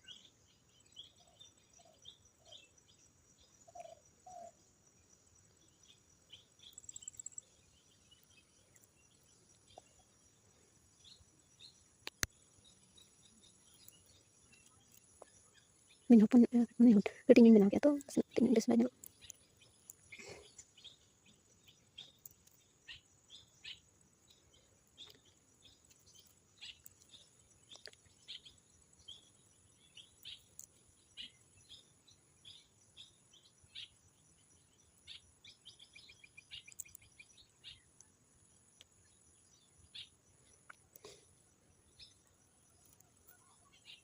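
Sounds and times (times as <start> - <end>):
faint bird chirps: 0.0 - 44.0.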